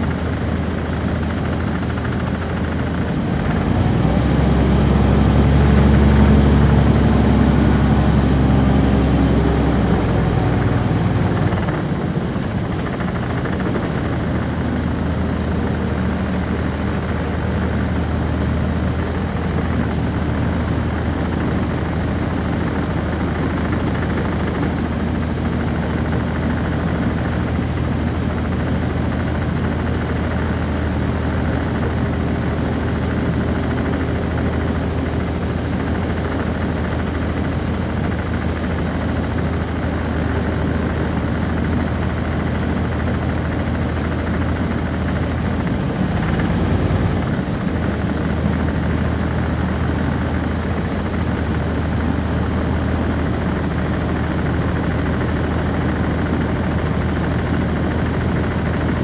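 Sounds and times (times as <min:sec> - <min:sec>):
bus diesel engine droning: 0:00.0 - 0:59.0
rumble: 0:00.0 - 0:59.0.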